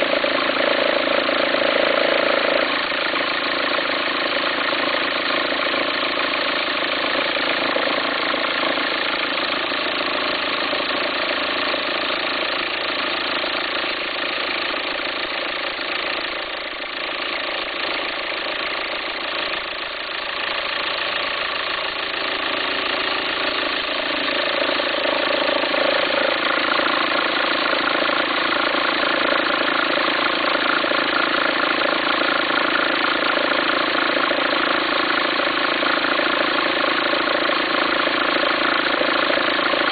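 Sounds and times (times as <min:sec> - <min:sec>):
diesel engine idling with rumbling: 0:00.0 - 0:39.9.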